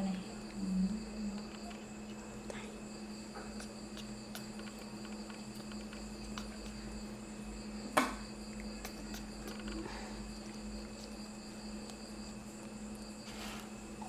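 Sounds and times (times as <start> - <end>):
insects chirring: 0.0 - 14.0
low steady hum: 0.0 - 14.0.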